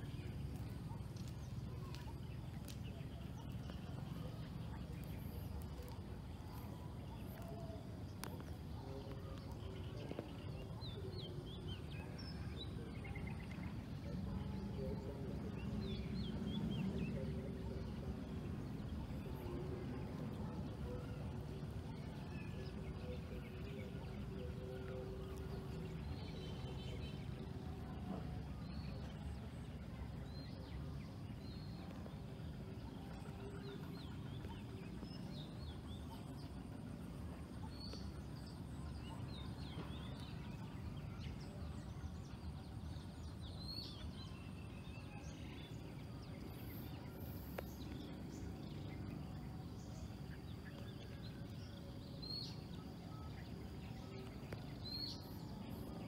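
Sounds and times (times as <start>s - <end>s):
steady low rumble: 0.0s - 56.0s.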